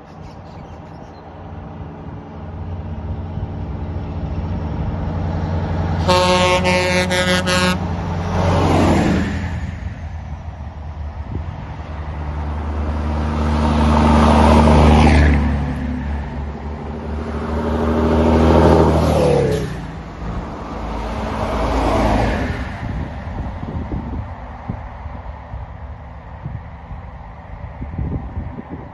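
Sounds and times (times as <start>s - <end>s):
diesel trucks driving past: 0.0s - 28.9s.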